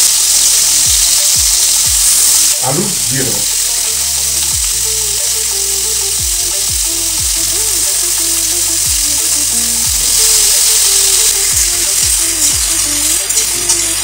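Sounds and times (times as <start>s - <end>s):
vegetables sizzling in hot oil: 0.0s - 14.0s
background music with bass: 0.2s - 14.0s.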